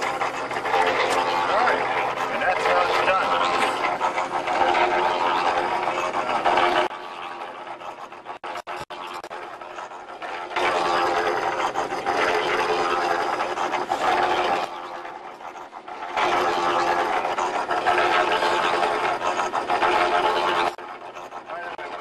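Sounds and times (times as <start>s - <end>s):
mortar mixer running: 0.0s - 22.0s.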